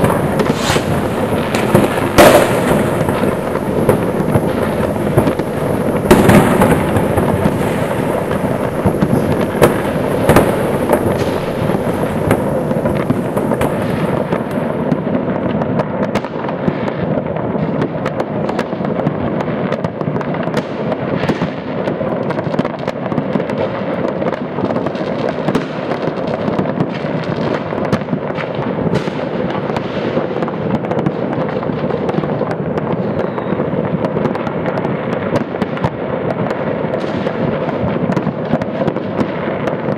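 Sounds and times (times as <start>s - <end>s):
fireworks crackling and banging: 0.0s - 39.9s
loud firework bangs: 0.0s - 39.9s.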